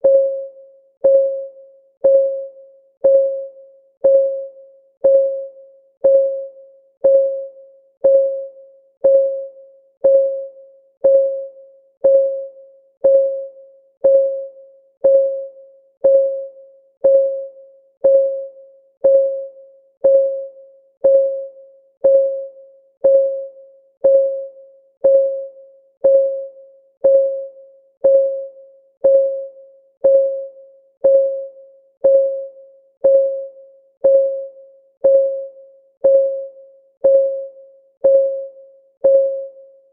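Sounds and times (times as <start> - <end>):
electronic timer ticking: 0.0 - 39.7.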